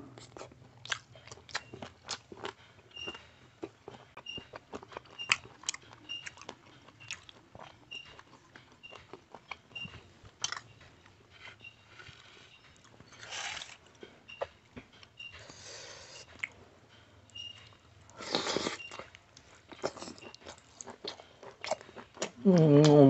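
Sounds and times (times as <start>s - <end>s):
wet chewing and lip smacks: 0.2s - 22.4s.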